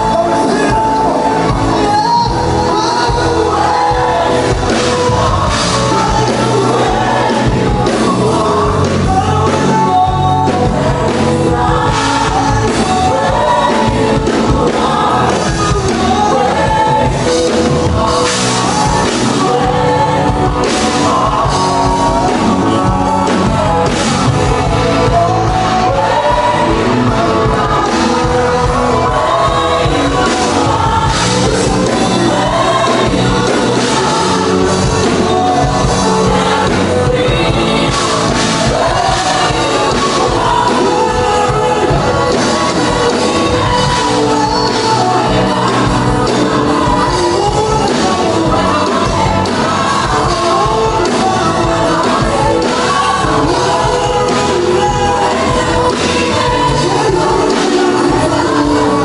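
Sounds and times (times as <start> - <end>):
live gospel band with choir: 0.0 - 59.0.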